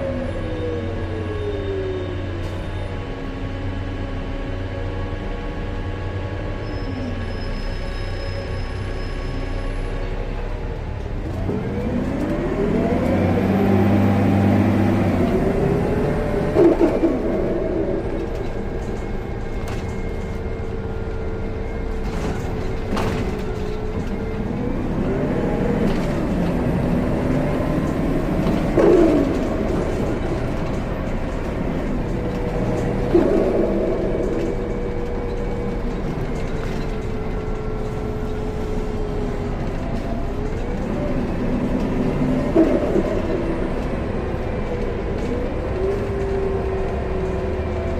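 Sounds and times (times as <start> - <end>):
bus drivetrain whine: 0.0 - 47.9.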